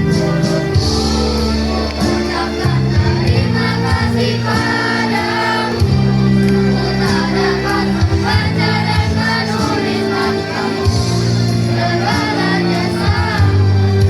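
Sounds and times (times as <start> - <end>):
backing music with bass line: 0.0 - 14.0
children's choir singing: 0.0 - 14.0.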